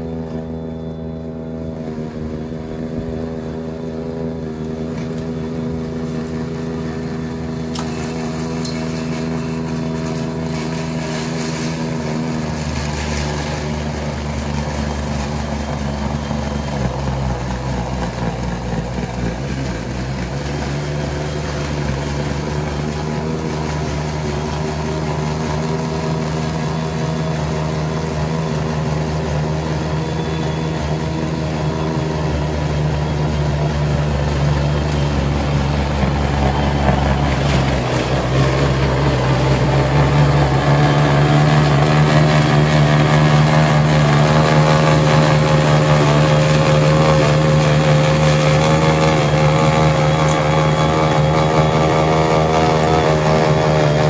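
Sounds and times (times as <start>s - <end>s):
snowblower motor hum: 0.0s - 54.0s.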